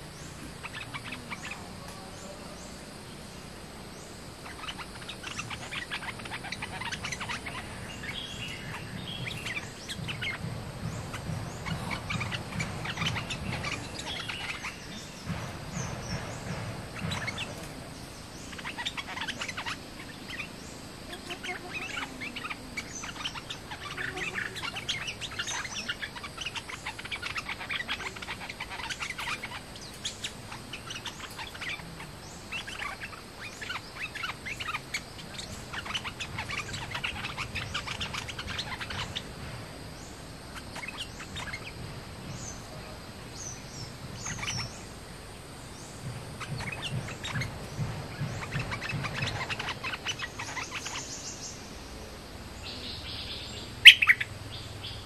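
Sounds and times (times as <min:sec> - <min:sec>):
bulbuls chattering: 0:00.0 - 0:55.0.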